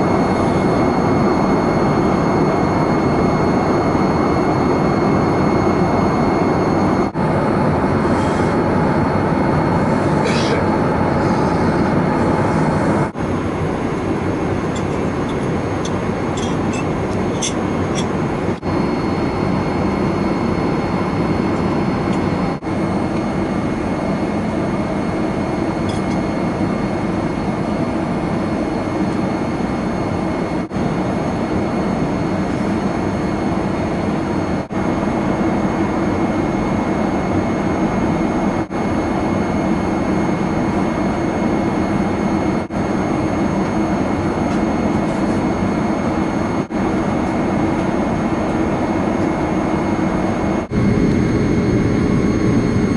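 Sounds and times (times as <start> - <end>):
cabin air rush and engine hum: 0.0 - 52.9.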